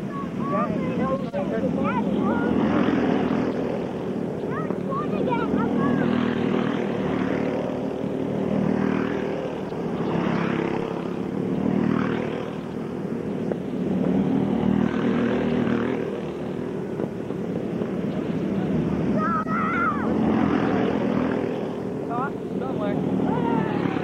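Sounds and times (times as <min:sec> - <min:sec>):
go-kart engines buzzing: 0:00.0 - 0:24.0.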